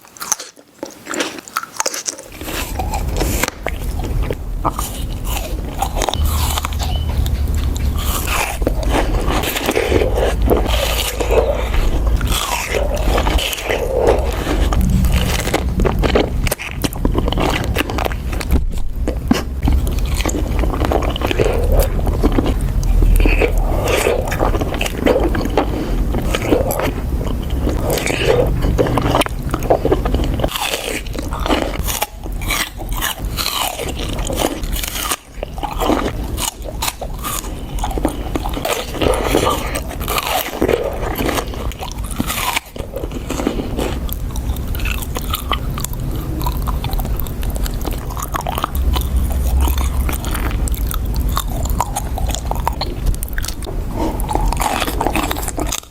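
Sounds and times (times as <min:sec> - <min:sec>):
biting and chewing fruit: 0:00.0 - 0:55.9.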